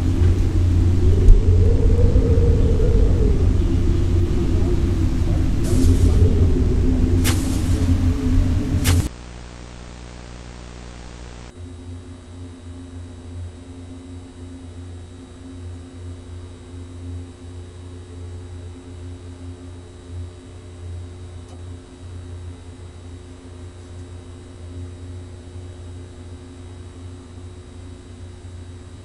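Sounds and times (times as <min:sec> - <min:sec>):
faint high-pitched whine: 0:00.0 - 0:29.0
low droning hum: 0:00.0 - 0:29.0.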